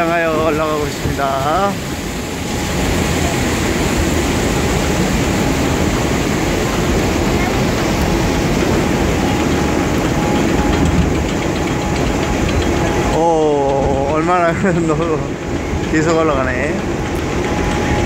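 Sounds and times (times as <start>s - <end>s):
conveyor clatter and rumble: 0.0s - 18.0s.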